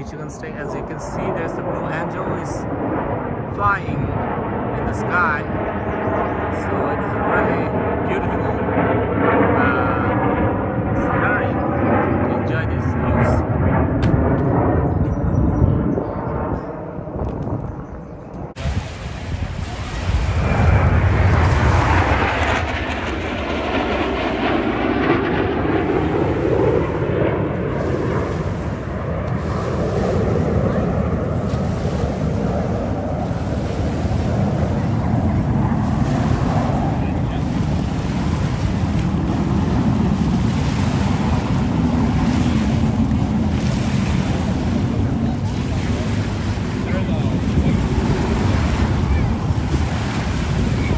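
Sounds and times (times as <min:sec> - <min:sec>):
jet roar flying overhead: 0:00.0 - 0:50.9
wind buffeting microphone: 0:00.0 - 0:50.9.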